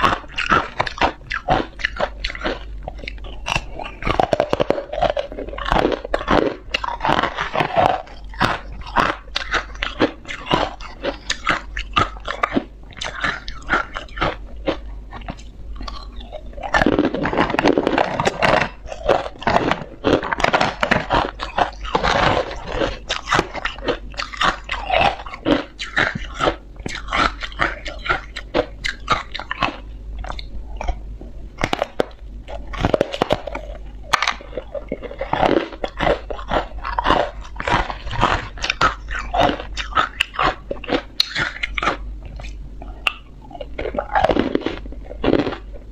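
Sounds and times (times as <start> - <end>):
ice crunching in mouth: 0.0 - 31.0, 31.6 - 45.8.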